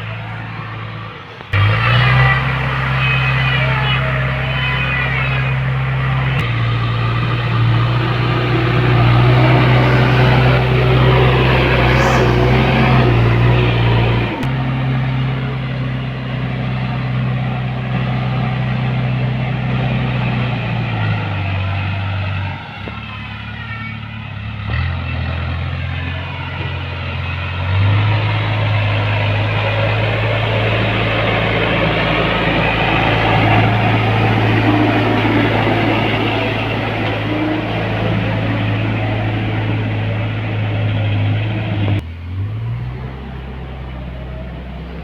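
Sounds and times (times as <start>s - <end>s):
heavy diesel engine running: 0.0s - 22.4s, 23.0s - 45.0s.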